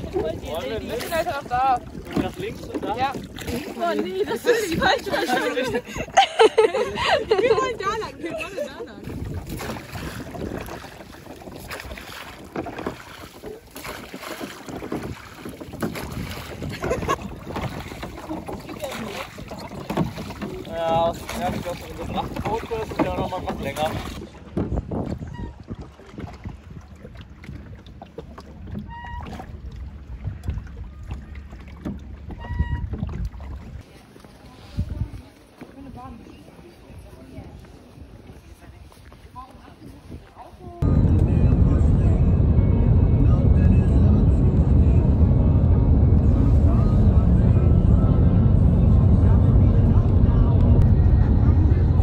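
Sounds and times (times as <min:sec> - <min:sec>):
wind buffeting microphone: 0:00.0 - 0:33.9, 0:34.5 - 0:52.0
boat motor rumbling: 0:00.0 - 0:52.0
water noise: 0:00.0 - 0:52.0.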